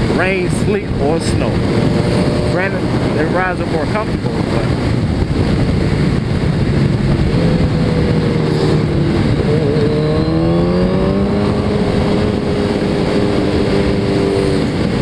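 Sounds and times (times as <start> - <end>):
motorcycle engine accelerating: 0.0 - 15.0
wind noise: 0.0 - 15.0.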